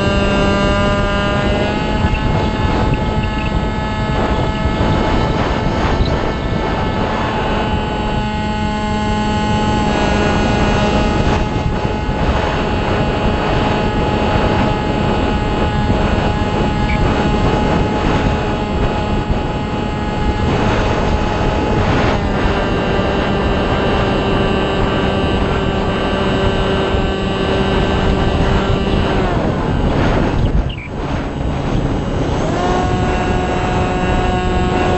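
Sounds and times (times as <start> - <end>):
model plane motor whine: 0.0 - 34.9
wind rush on camera: 0.0 - 34.9.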